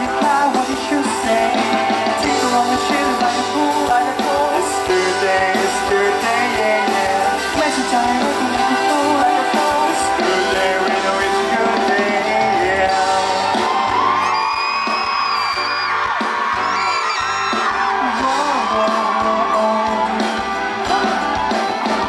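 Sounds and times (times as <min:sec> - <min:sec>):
man singing into microphone: 0:00.0 - 0:13.9, 0:17.8 - 0:22.0
crowd screaming and cheering: 0:00.0 - 0:22.0
pop-rock band playing: 0:00.0 - 0:22.0.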